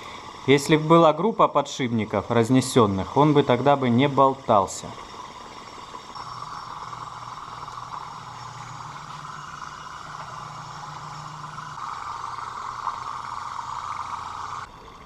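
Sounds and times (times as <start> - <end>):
small engine whirring: 0.0 - 15.0.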